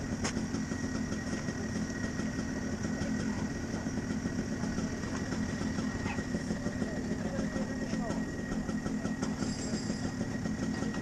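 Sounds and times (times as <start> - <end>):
kart engine idling: 0.0 - 11.0.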